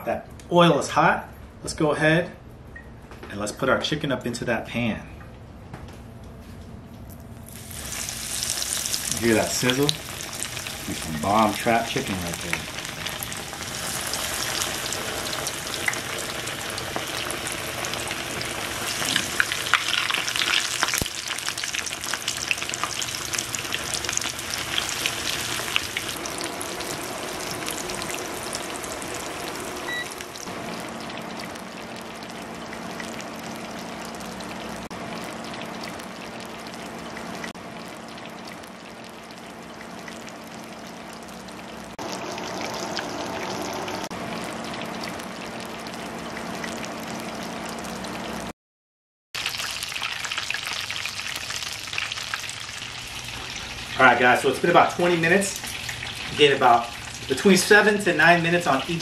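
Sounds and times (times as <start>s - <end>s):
chicken sizzling in hot oil: 7.4s - 48.5s, 49.4s - 59.0s.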